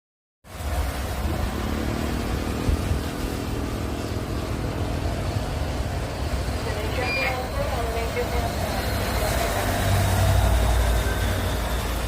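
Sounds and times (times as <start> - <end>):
airliner landing roar: 0.5 - 12.0.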